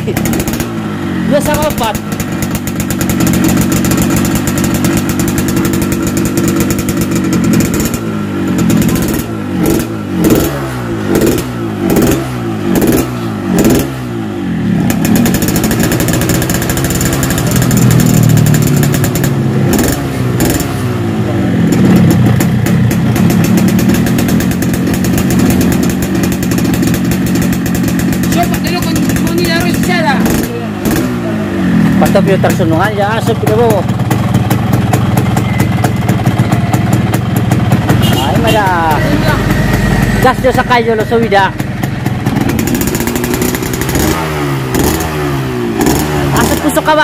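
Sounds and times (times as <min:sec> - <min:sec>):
two-stroke motorcycle engine revving: 0:00.0 - 0:47.0.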